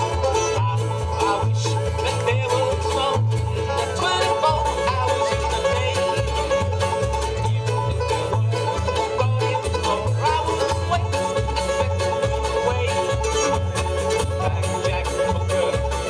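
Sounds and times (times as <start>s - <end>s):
acoustic guitar: 0.0s - 16.0s
banjo rolls: 0.0s - 16.0s
double bass plucking: 0.0s - 16.0s
fiddle: 0.0s - 16.0s
mandolin: 0.0s - 16.0s.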